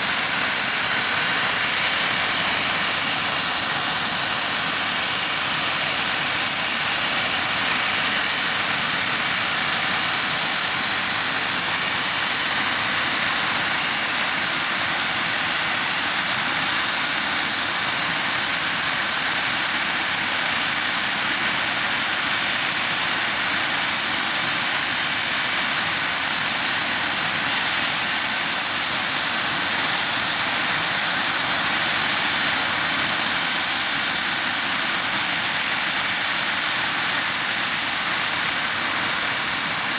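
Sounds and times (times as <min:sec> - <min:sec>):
jet engines running with whine: 0:00.0 - 0:39.9.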